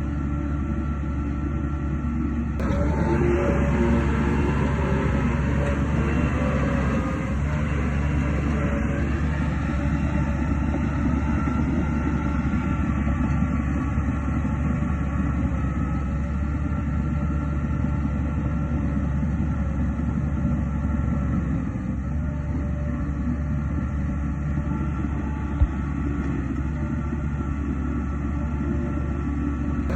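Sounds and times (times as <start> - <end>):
diesel machinery rumble: 0.0 - 29.9
faint steady whine: 0.0 - 29.9.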